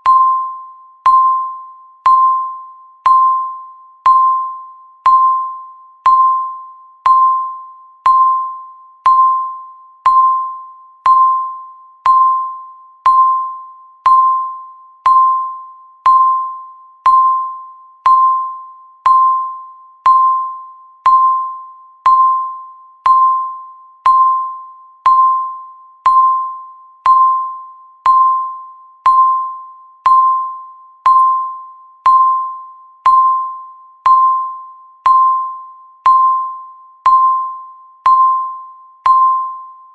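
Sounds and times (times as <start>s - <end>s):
timer ding ticking: 0.0s - 39.8s.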